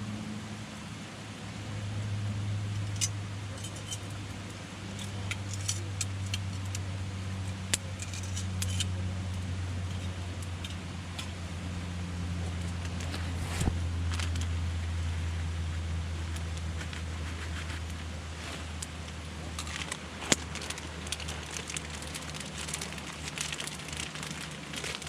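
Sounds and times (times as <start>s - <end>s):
steady low hum: 0.0s - 25.0s
campfire crackling: 2.8s - 25.0s.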